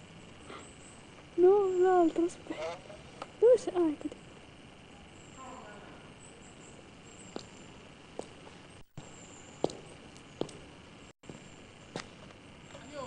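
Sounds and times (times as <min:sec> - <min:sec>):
tape hiss: 0:00.0 - 0:13.0.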